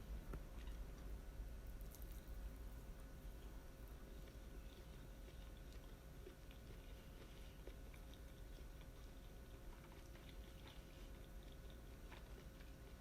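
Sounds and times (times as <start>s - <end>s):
low steady hum: 0.0s - 13.0s
faint chewing: 0.3s - 13.0s.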